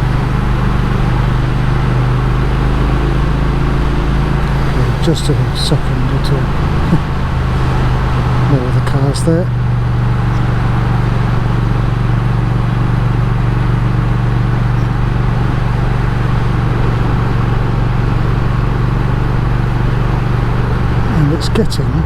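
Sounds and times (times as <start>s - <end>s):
motorcycle engine droning: 0.0s - 22.0s
wind and road rush: 0.0s - 22.0s.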